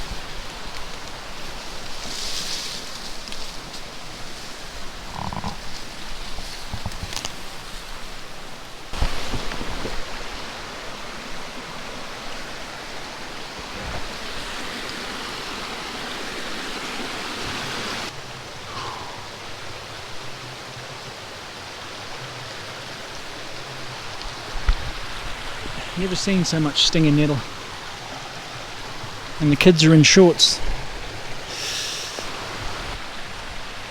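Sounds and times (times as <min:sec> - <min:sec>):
creek water running: 0:00.0 - 0:33.9
rain: 0:00.0 - 0:33.9.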